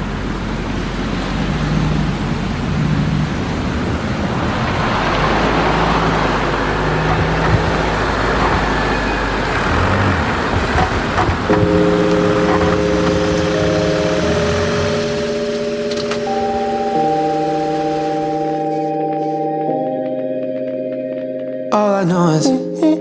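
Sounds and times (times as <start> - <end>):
road traffic passing: 0.0 - 19.4.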